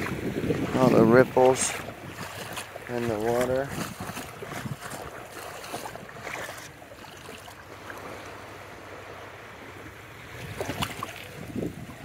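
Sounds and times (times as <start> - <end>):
small waves washing: 0.0 - 12.0.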